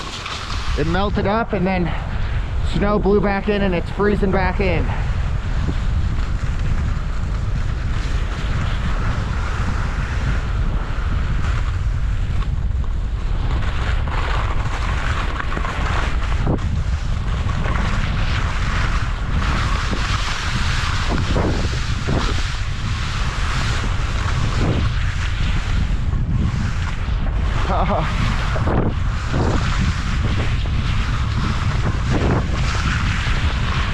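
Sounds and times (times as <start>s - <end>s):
skis hissing on crusty snow: 0.0s - 1.1s, 4.0s - 12.3s, 13.2s - 33.9s
ski scrapes: 0.0s - 12.4s, 13.2s - 33.9s
wind buffeting microphone: 0.0s - 33.9s.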